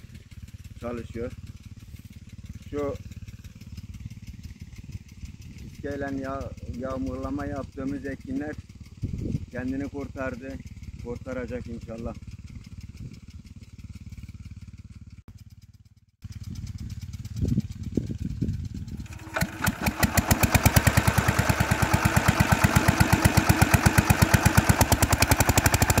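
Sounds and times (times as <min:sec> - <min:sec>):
engine-driven water pump running: 0:00.0 - 0:26.0.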